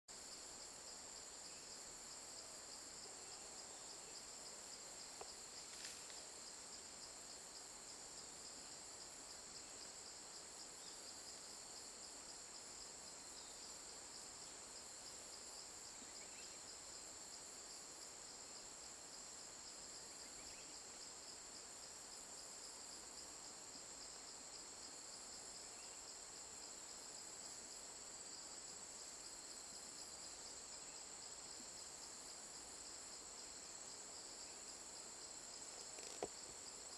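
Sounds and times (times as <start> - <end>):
insects trilling: 0.2 - 36.9.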